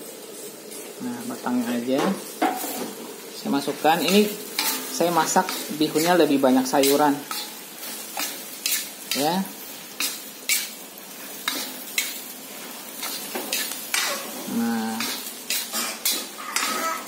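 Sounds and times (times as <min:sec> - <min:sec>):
vegetables sizzling: 0:00.0 - 0:17.0
metal spatula scraping a wok: 0:01.5 - 0:03.0, 0:03.9 - 0:17.0.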